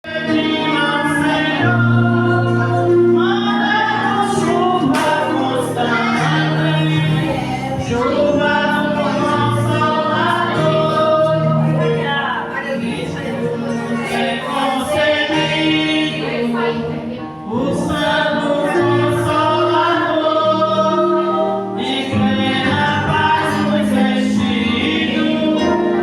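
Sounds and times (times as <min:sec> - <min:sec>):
woman singing gospel song: 0:00.1 - 0:26.0.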